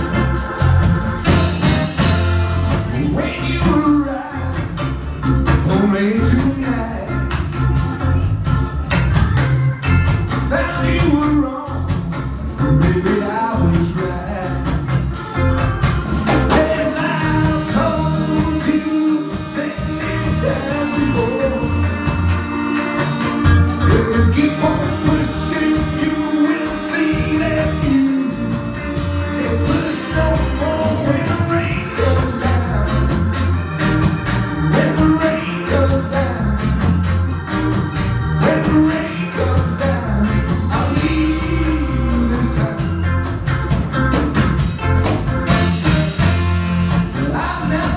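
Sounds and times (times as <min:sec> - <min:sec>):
horn section: 0:00.0 - 0:11.8, 0:12.5 - 0:47.9
electric guitar: 0:00.0 - 0:47.9
keyboards: 0:00.0 - 0:47.9
steady drum beat: 0:00.0 - 0:47.9
lead singer: 0:01.3 - 0:07.7, 0:10.3 - 0:43.6, 0:45.5 - 0:47.9.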